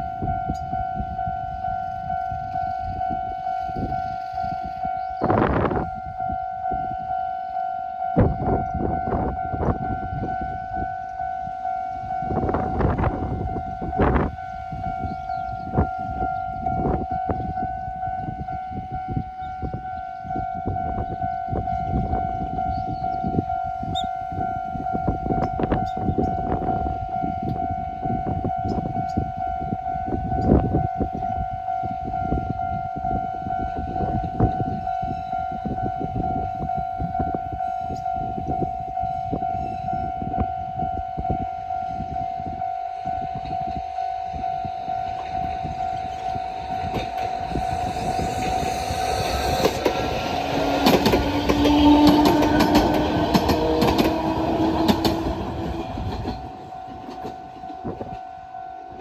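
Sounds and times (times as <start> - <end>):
rising train whine: 0.0 - 59.0
train rumbling and clattering: 8.2 - 42.6, 43.3 - 59.0.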